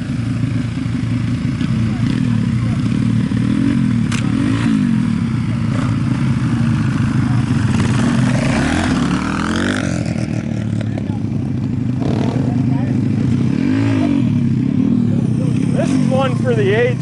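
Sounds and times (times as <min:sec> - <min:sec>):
motorcycle engines revving: 0:00.0 - 0:17.0
motorcycle passing by: 0:01.6 - 0:17.0.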